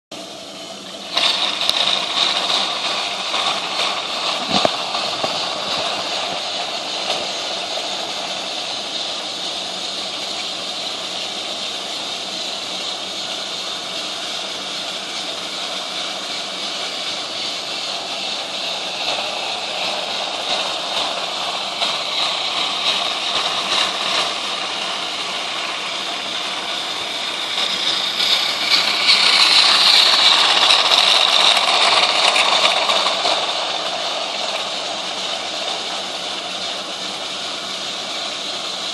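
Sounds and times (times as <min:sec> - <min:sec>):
toy train motors whirring: 0:00.8 - 0:38.9.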